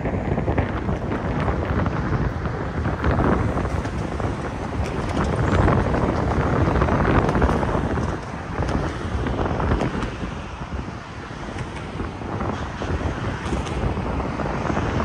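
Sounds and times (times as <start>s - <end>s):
rail clicks: 0.0s - 10.4s, 11.4s - 14.1s
train wheel and rail noise: 0.0s - 15.0s
wind buffeting microphone: 0.0s - 15.0s.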